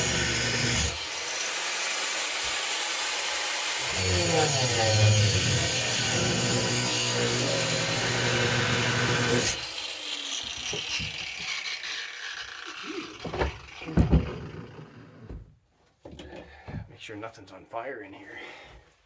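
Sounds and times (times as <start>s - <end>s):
angle grinder grinding metal: 0.0s - 15.3s.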